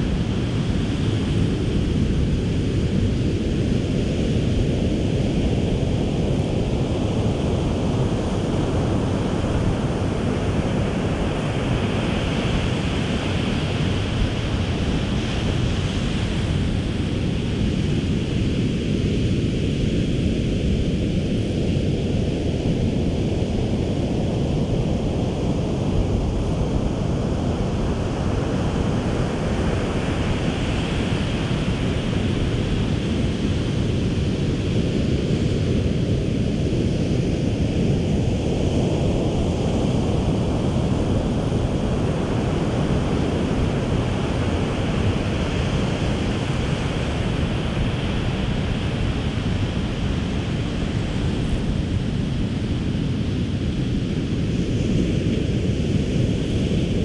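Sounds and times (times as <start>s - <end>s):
ocean surf washing on beach: 0.0s - 22.6s, 23.2s - 57.0s
wind rumbling on microphone: 0.0s - 57.0s.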